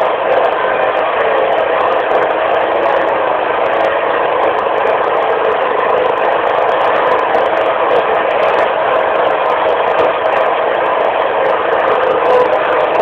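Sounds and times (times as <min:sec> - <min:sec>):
riding mower engine running: 0:00.0 - 0:13.0.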